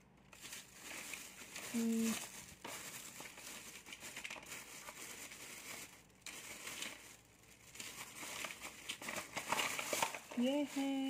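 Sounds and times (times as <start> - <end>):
crinkly rustling and scraping: 0.0 - 11.0.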